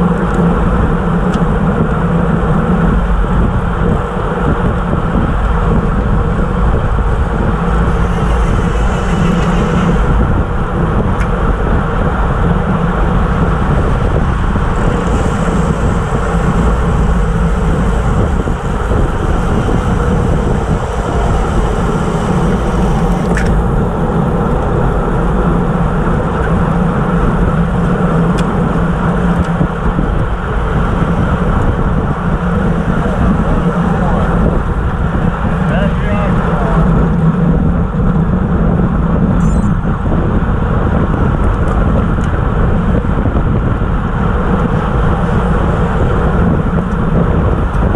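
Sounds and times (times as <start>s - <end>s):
tyres rumbling on asphalt: 0.0s - 47.9s
wind buffeting microphone: 0.0s - 47.9s.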